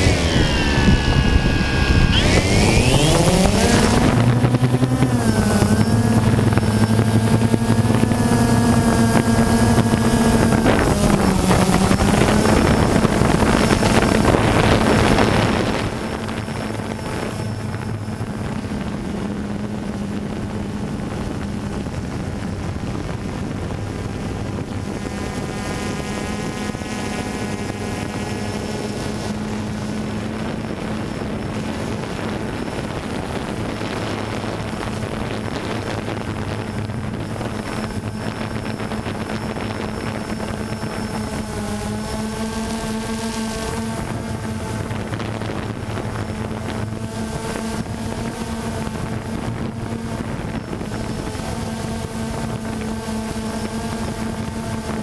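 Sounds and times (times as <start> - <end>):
drone propellers whirring: 0.0 - 55.0.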